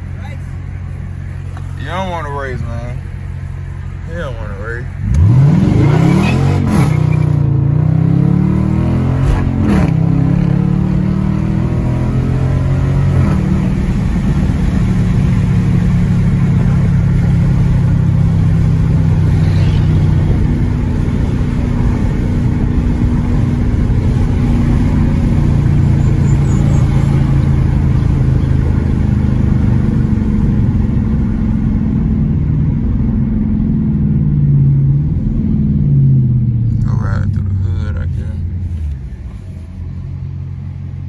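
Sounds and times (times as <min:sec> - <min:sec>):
loud car exhaust drone: 0:04.8 - 0:41.0.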